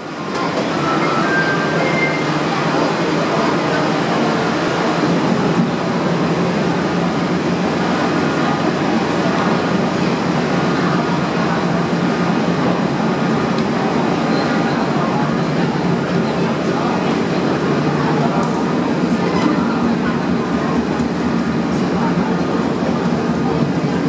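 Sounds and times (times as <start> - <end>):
ferry engine humming: 0.0 - 24.0.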